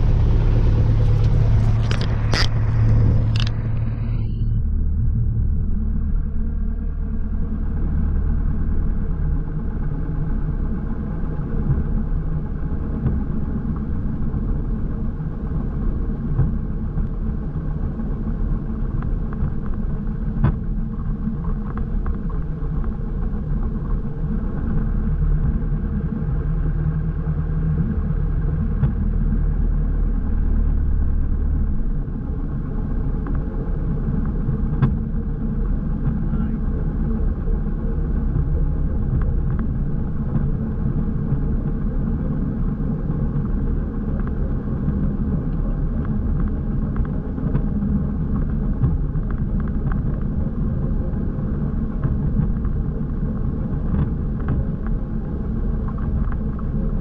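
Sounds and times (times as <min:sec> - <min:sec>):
airplane piston engine drone: 0:00.0 - 0:57.0.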